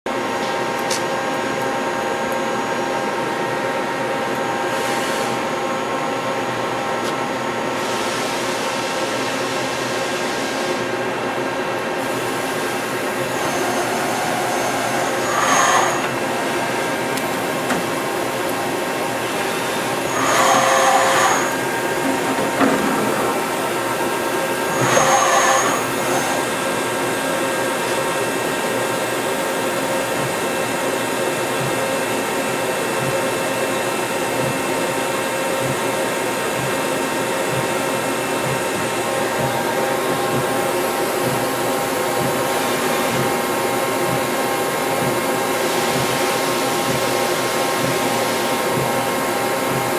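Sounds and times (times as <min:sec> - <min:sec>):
milling machine humming and whining: 0:00.1 - 0:49.9.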